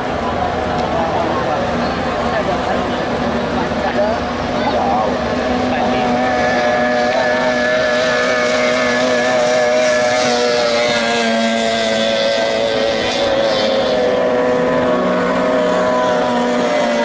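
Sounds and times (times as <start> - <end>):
racing boat engines whining: 0.0 - 17.0.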